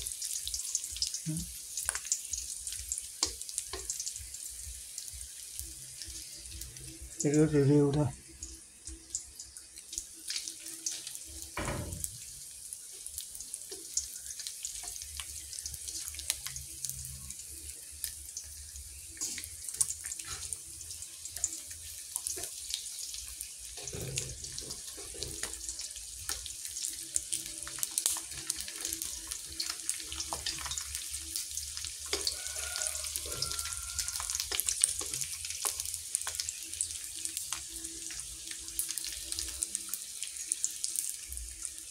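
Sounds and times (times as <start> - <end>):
fish sizzling in oil: 0.0 - 41.9.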